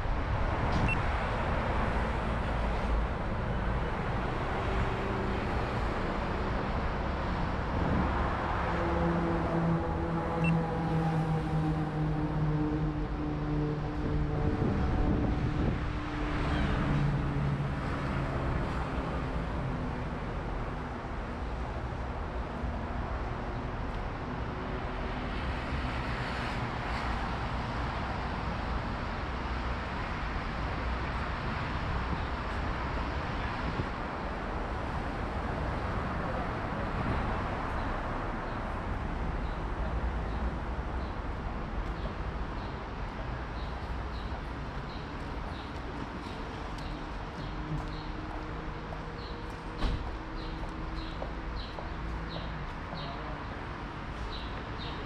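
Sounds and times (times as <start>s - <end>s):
city street traffic: 0.0s - 55.0s.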